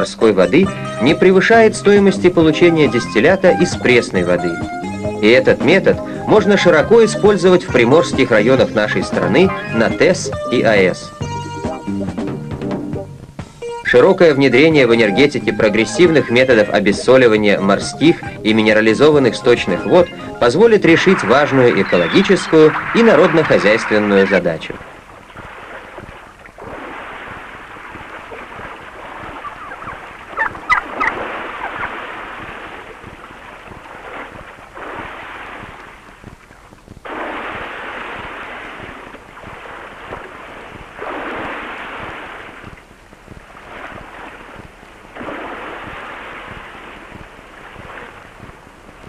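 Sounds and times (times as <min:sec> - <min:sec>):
surf breaking on rocks: 0:00.0 - 0:11.1, 0:13.9 - 0:49.0.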